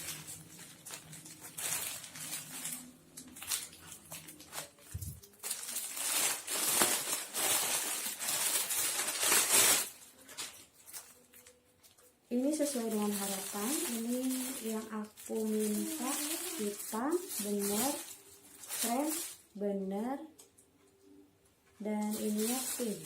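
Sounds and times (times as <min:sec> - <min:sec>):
packaging rustling and crinkling: 0:00.0 - 0:19.6, 0:22.0 - 0:23.0.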